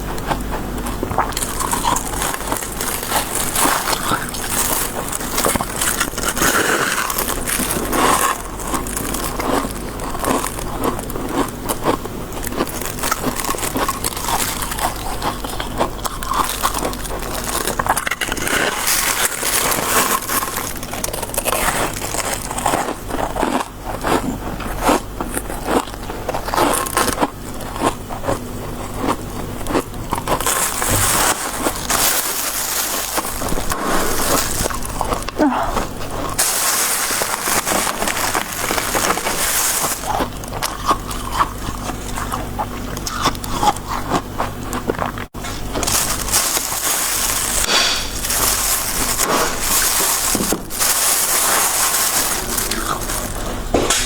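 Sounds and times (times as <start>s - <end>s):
crunching ice being chewed: 0.0s - 53.9s.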